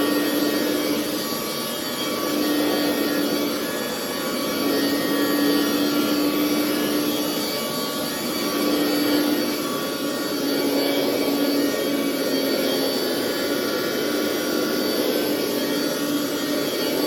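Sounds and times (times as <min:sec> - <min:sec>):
carpet cleaner motor humming: 0:00.0 - 0:17.0.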